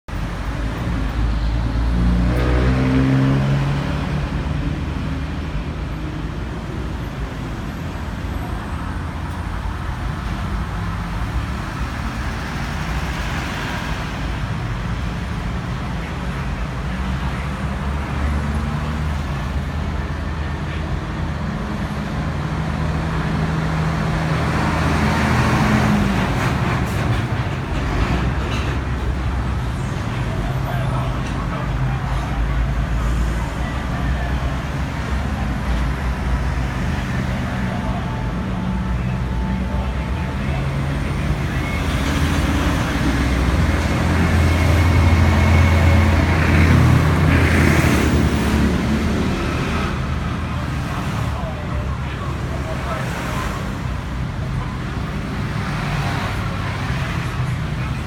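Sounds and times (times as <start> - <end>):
road noise: 0.1 - 58.0.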